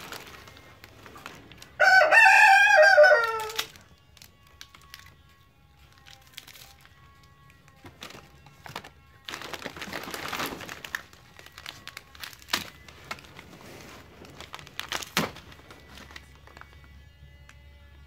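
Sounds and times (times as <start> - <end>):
plastic wrappers and cardboard rustling: 0.0 - 18.0
sharp crackles: 2.4 - 17.6.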